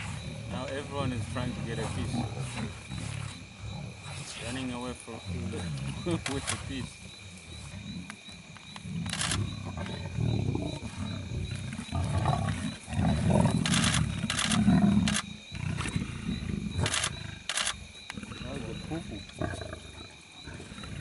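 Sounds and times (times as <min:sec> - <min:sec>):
lions growling: 0:00.0 - 0:21.0.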